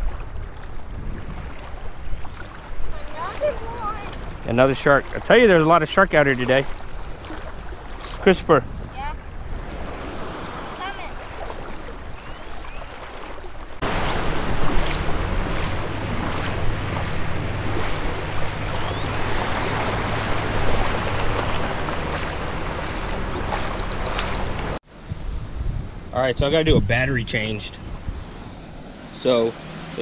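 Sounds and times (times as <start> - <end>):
wind rumbling on microphone: 0.0 - 5.2, 6.6 - 29.2
shallow surf: 0.0 - 30.0.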